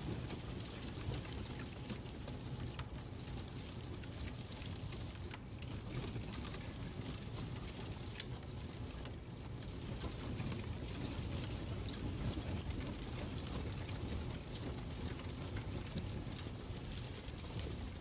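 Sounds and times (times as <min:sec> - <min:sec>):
fireplace crackling: 0:00.0 - 0:18.0.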